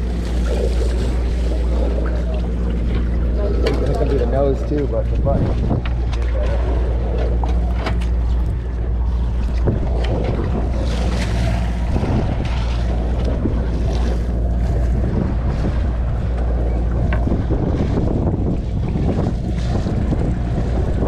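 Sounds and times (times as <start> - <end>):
boat engine drone: 0.0 - 21.0
water rushing along hull: 0.0 - 21.0
wind buffeting microphone: 0.0 - 21.0.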